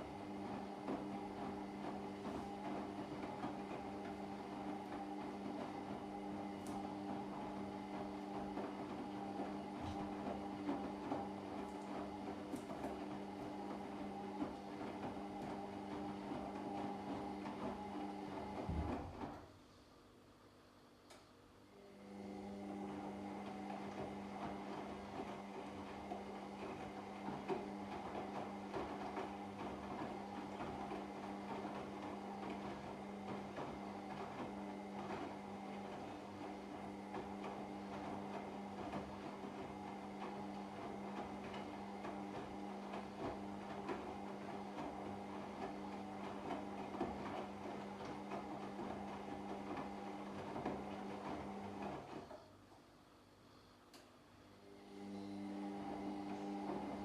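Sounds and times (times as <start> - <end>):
washing machine motor hum: 0.0 - 19.7, 21.6 - 53.2, 54.2 - 57.0.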